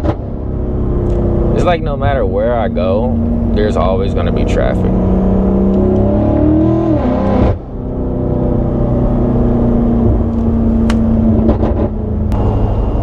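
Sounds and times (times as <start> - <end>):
car engine pulling: 0.0 - 13.0
road rumble: 0.0 - 13.0.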